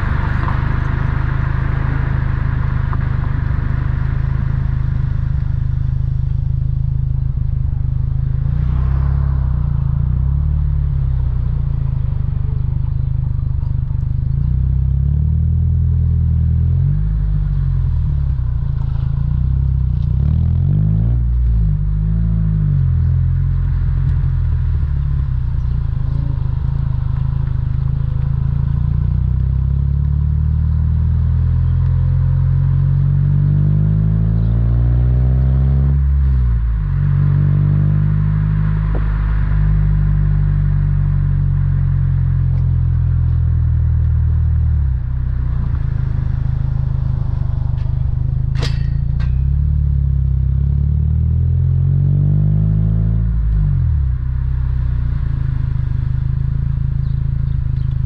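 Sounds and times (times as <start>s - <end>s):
car exhaust while driving: 0.0s - 58.0s.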